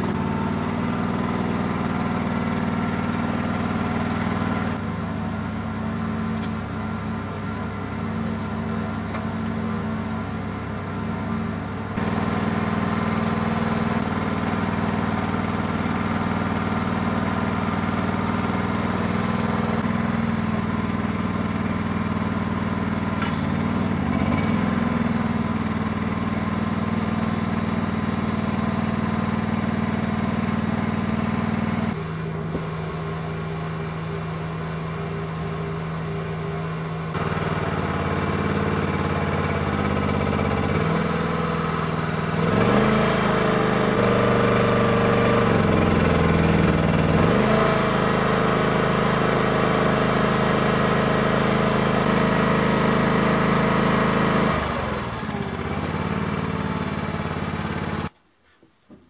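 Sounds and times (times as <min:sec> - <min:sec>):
small excavator engine running: 0:00.0 - 0:58.2.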